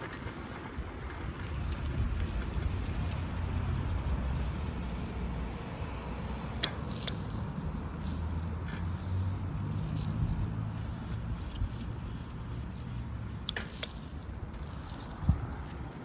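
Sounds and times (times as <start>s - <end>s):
low road noise: 0.0s - 16.0s
wind rumbling on microphone: 0.0s - 16.0s.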